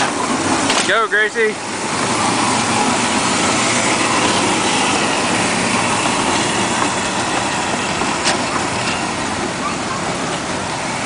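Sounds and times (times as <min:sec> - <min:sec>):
kiddie ride cars rolling: 0:00.0 - 0:11.0.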